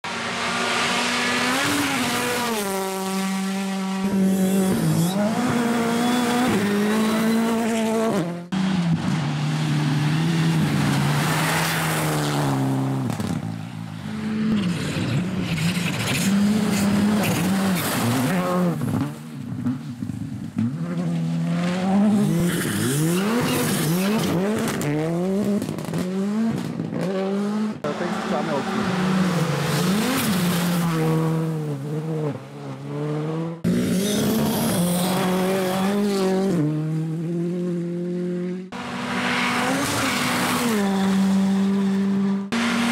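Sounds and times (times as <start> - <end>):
rally cars passing at full throttle: 0.0 - 42.9.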